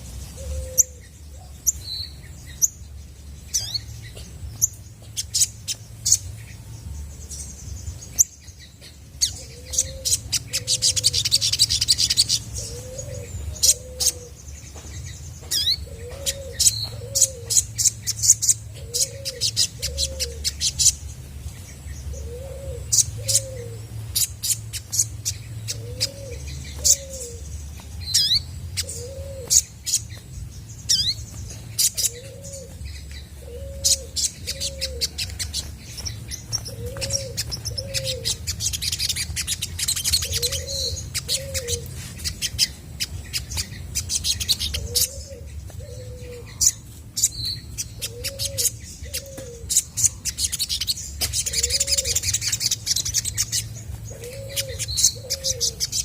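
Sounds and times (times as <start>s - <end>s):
bird trill: 0.0s - 21.2s, 22.0s - 56.0s
bird chirping: 0.0s - 56.0s.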